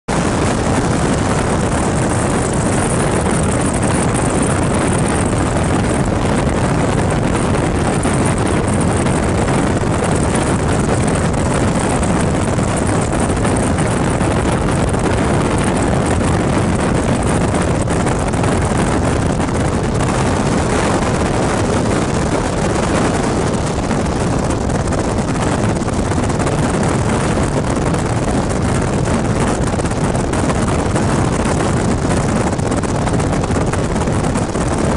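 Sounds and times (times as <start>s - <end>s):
car road and wind noise: 0.1s - 34.9s
wind buffeting microphone: 0.1s - 34.9s.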